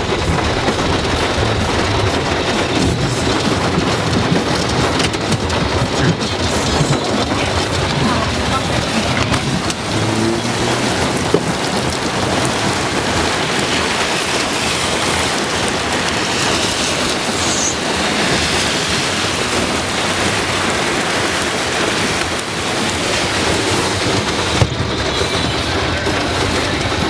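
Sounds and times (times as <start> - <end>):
heavy rain on a car: 0.0 - 27.0.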